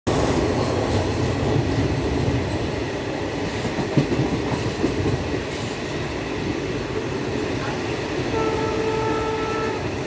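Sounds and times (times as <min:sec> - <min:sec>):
train wheels rumbling on rails: 0:00.1 - 0:10.0.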